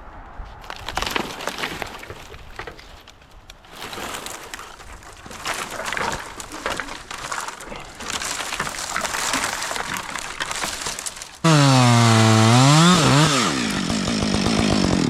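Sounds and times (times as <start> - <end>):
branches rustling and scraping: 0.1 - 14.5.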